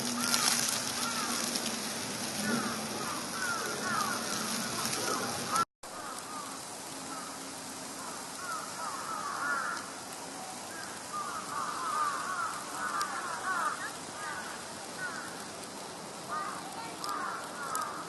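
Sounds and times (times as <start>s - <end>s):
snowstorm hiss: 0.0s - 18.0s.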